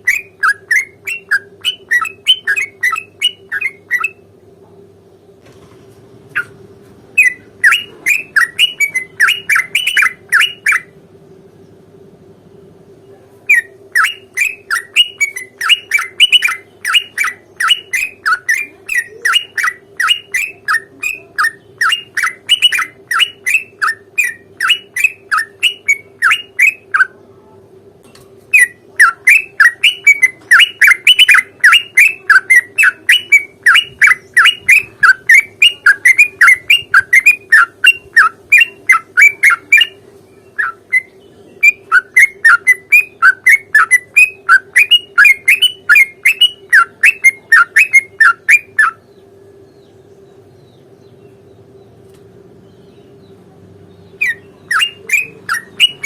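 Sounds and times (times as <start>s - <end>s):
bulbul calling: 0.0s - 4.2s, 6.4s - 11.0s, 13.5s - 27.2s, 28.5s - 49.2s, 54.0s - 56.0s
steady low hum: 0.0s - 56.0s.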